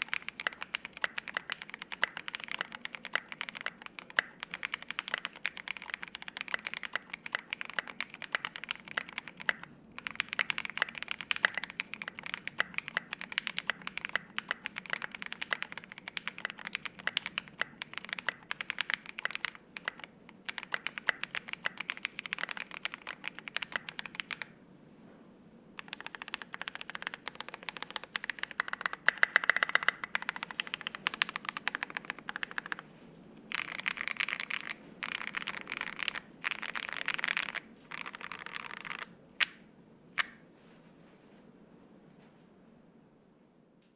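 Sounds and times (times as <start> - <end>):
mechanical keyboard typing: 0.0 - 24.6, 25.8 - 39.6.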